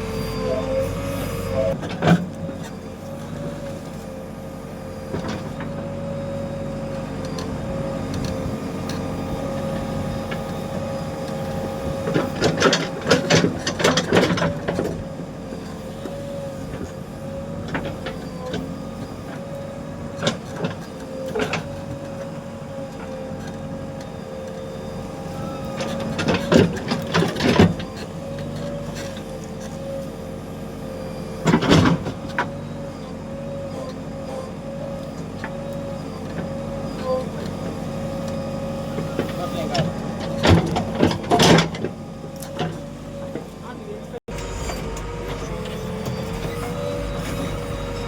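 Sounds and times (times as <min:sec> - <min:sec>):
diesel engine running: 0:00.0 - 0:48.0
hydraulic whine: 0:00.0 - 0:48.0.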